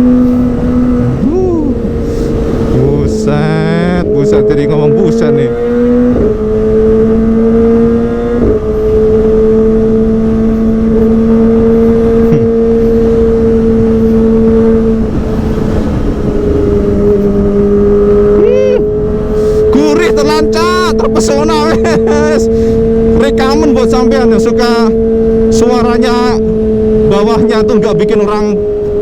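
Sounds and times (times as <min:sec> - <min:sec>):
motorcycle engine running hard: 0:00.0 - 0:29.0
rush of wind: 0:00.0 - 0:29.0.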